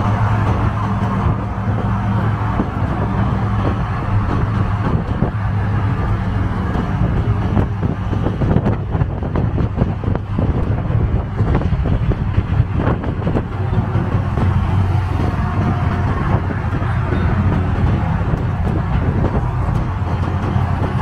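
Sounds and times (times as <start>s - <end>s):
body rattles and knocks: 0.0s - 21.0s
road noise: 0.0s - 21.0s.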